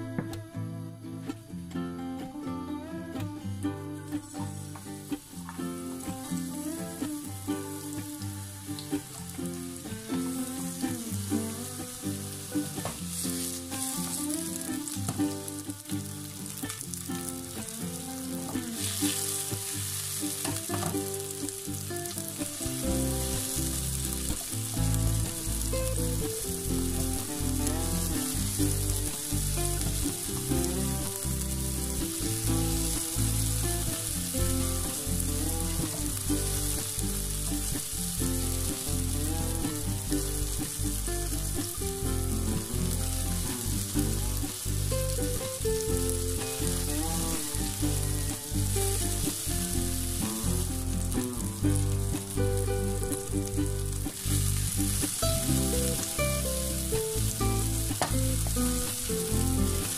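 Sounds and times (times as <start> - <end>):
background music with bass: 0.0 - 59.9
onions sizzling in oil: 3.6 - 59.9.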